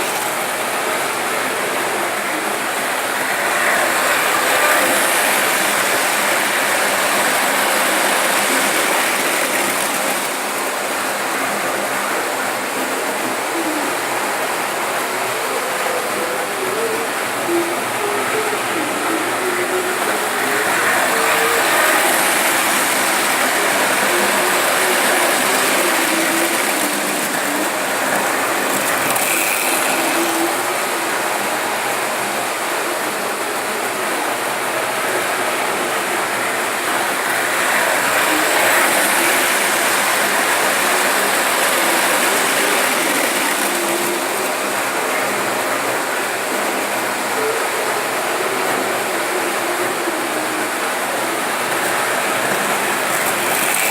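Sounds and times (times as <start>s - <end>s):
model train rattling on track: 0.0s - 53.9s.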